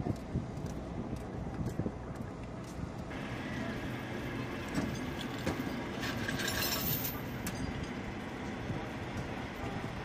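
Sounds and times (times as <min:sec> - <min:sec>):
vehicle engines idling: 0:00.0 - 0:10.0.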